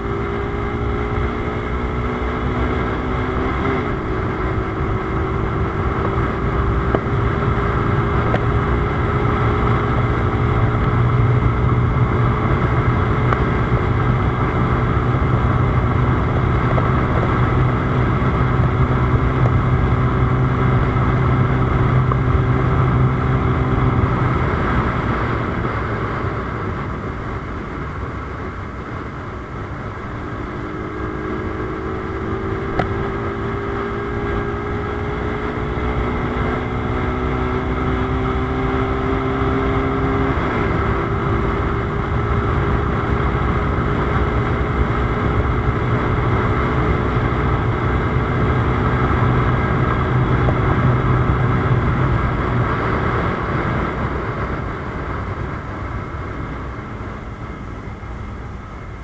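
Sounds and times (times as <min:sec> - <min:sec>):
motorcycle engine at high speed: 0:00.0 - 0:59.0.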